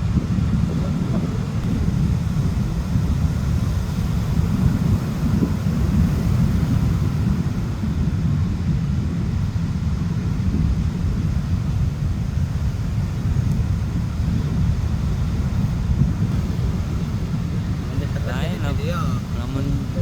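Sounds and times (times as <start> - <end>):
boat motor rumbling: 0.0 - 20.0
wind on microphone: 0.0 - 20.0.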